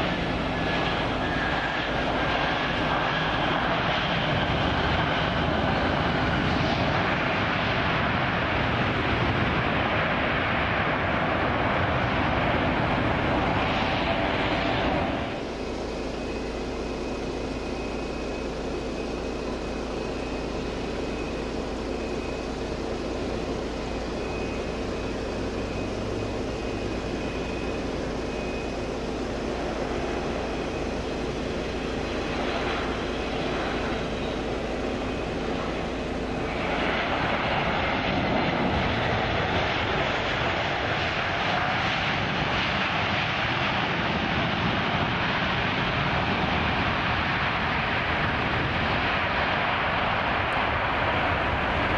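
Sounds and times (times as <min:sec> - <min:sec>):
jet engine whine: 0:00.0 - 0:51.9.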